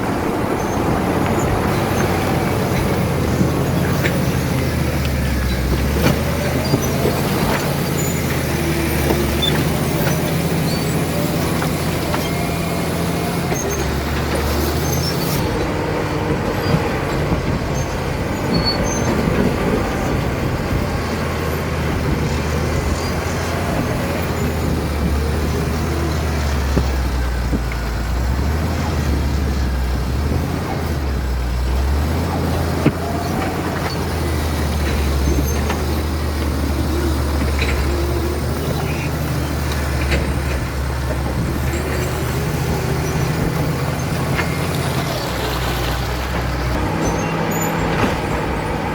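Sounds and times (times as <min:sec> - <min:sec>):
bulldozer diesel engine running: 0:00.0 - 0:48.9
running gear clicks and squeals: 0:00.0 - 0:48.9.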